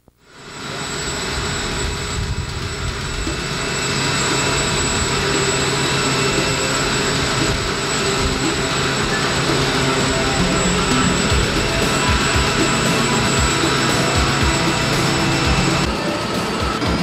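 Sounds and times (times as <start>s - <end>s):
helicopter rotor noise: 0.2s - 17.0s
helicopter turbine whine: 0.2s - 17.0s.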